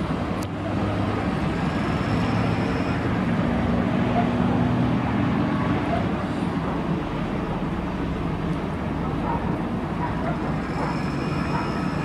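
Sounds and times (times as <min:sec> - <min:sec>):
engine rumble: 0:00.0 - 0:12.0
street noise: 0:00.0 - 0:12.0.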